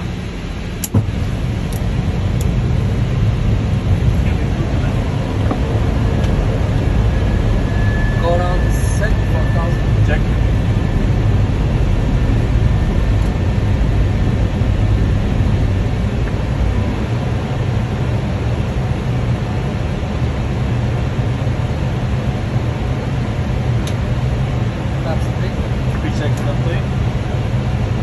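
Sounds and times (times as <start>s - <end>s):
aircraft engine noise: 0.0s - 28.0s
airflow over cockpit: 0.0s - 28.0s
deep rumble: 0.0s - 28.0s.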